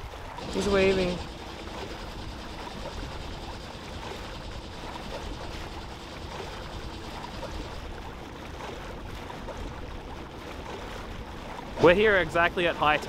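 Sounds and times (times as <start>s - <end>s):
water trickling along hull: 0.0s - 13.0s
boat engine idling: 0.1s - 13.0s.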